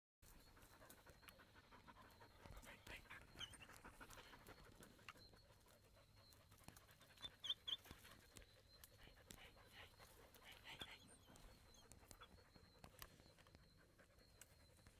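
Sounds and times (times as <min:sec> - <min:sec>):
dog panting and sniffing: 0:00.2 - 0:14.9
rustles of twigs and earth: 0:02.0 - 0:14.9.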